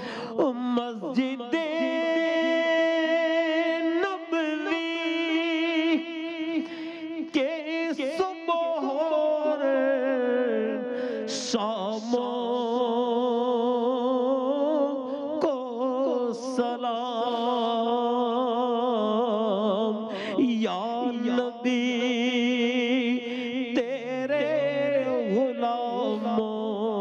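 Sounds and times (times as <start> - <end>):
man singing with vibrato: 0.0 - 27.0.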